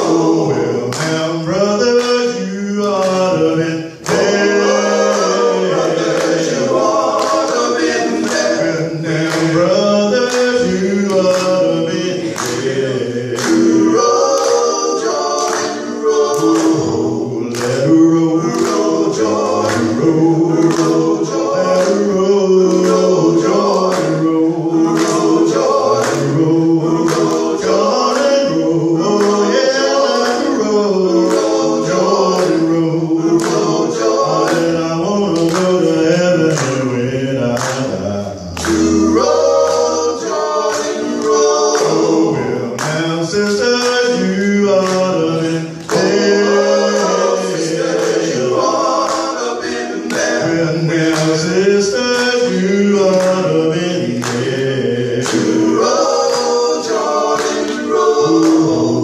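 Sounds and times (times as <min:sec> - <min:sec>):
hand claps: 0:00.0 - 0:59.0
male vocal group singing in harmony: 0:00.0 - 0:59.0.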